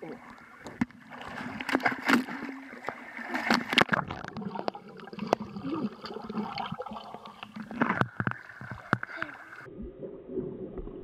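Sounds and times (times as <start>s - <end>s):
pool water splashing and gurgling: 0.0s - 11.0s.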